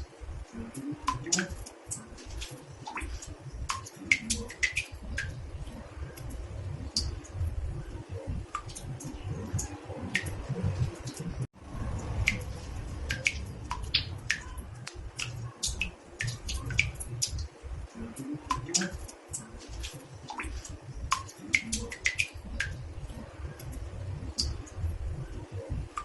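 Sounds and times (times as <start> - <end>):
water drops plinking in bathtub: 0.0 - 22.8, 23.6 - 26.0
low steady rumble: 1.9 - 26.0.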